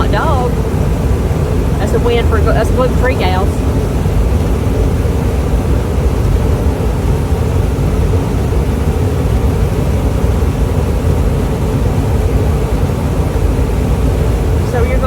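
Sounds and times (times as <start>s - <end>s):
harvest machinery engine drone: 0.0s - 15.0s.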